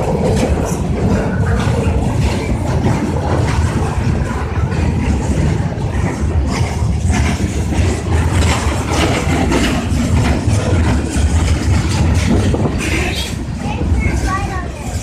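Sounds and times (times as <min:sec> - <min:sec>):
freight train rumbling on rails: 0:00.0 - 0:15.0.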